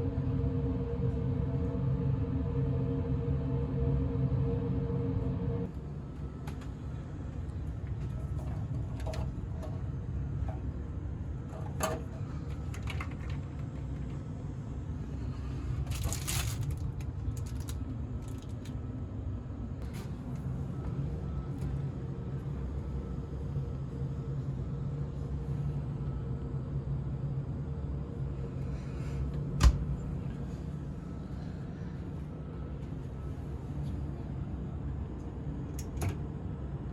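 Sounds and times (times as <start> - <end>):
ship machinery and ventilation hum: 0.0 - 36.9.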